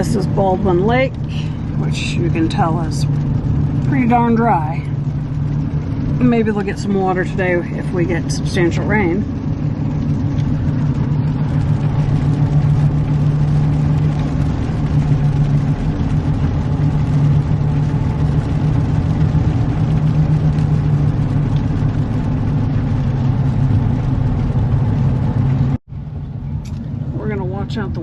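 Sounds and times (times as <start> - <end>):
car engine and road drone: 0.0 - 28.0.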